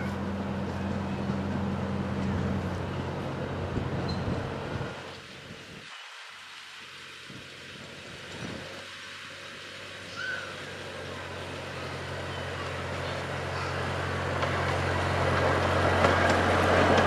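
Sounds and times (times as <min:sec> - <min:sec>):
miniature train engine hum: 0:00.0 - 0:05.3, 0:08.3 - 0:17.0.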